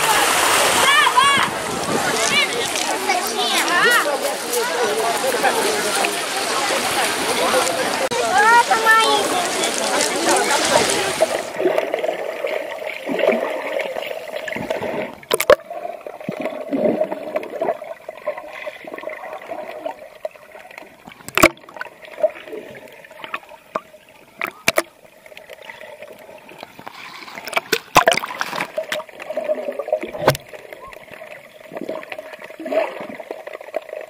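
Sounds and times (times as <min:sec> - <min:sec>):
muffled underwater water sloshing: 0:00.0 - 0:34.0.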